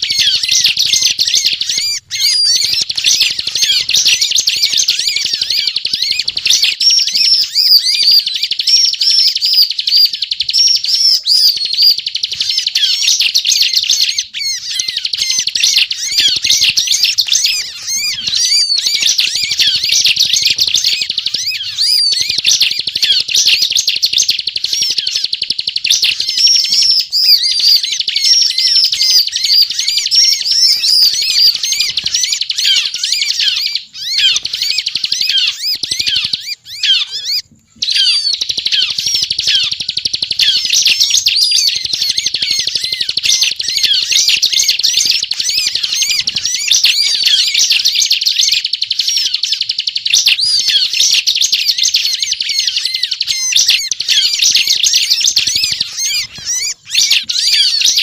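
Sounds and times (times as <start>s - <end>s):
bird singing high chirps and trills: 0.0s - 58.0s.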